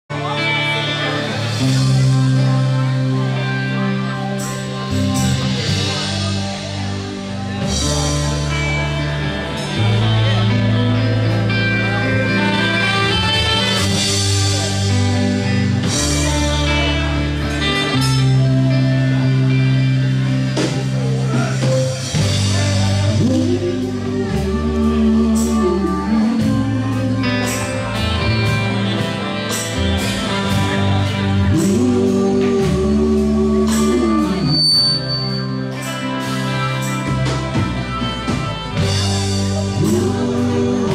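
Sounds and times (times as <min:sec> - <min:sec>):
bass guitar: 0:00.0 - 0:40.9
drums: 0:00.0 - 0:40.9
electric guitars: 0:00.1 - 0:40.9
saxophone: 0:00.1 - 0:40.9.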